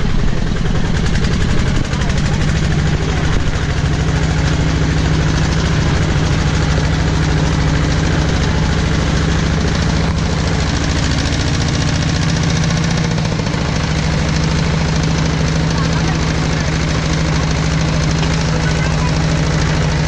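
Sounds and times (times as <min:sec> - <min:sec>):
diesel engine chugging: 0:00.0 - 0:20.0.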